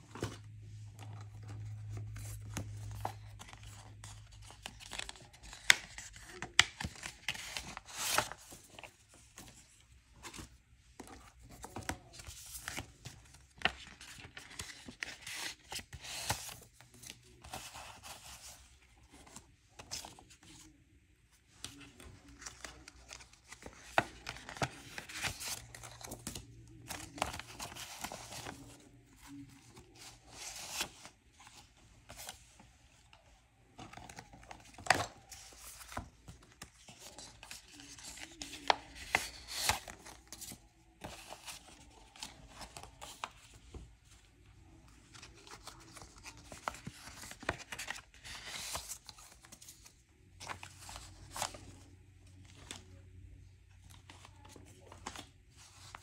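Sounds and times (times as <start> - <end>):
banknotes rustling and crinkling: 0.0 - 56.0.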